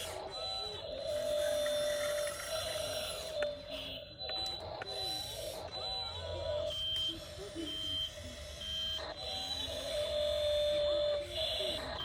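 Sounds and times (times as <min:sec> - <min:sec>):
electronic reversing beeps: 0:00.0 - 0:12.0.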